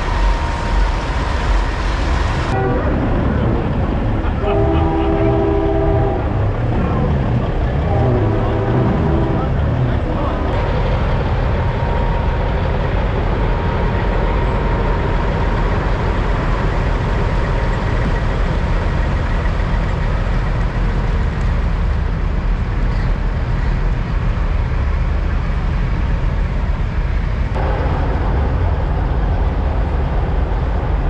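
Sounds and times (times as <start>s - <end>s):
truck engines idling: 0.0s - 31.0s.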